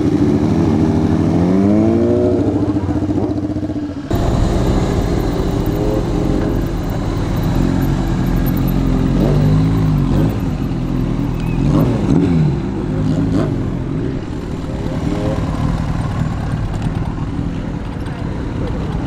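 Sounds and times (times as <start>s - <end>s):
motorcycles revving past: 0.0s - 19.0s.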